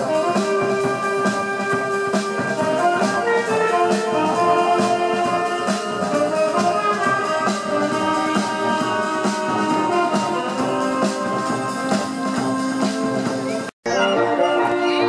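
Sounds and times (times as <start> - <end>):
steady drum beat: 0.0 - 13.8
brass and woodwinds melody: 0.0 - 15.0.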